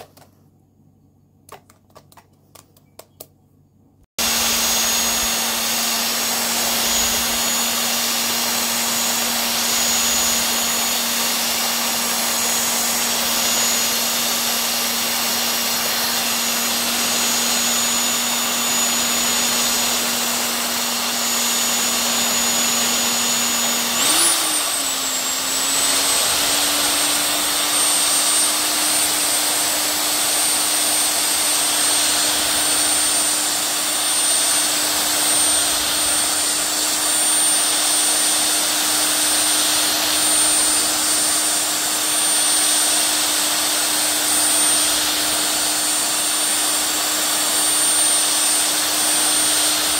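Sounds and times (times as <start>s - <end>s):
electric whisk motor humming: 4.2s - 49.9s
whir and slosh of batter: 4.2s - 49.9s.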